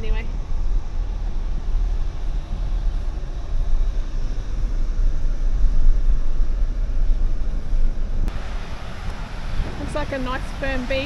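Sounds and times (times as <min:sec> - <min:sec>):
diesel engine and tyres rumbling: 0:00.0 - 0:11.0.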